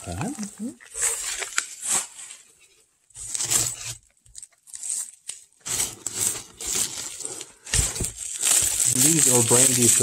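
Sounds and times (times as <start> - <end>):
packing paper rustling: 0.2 - 10.0.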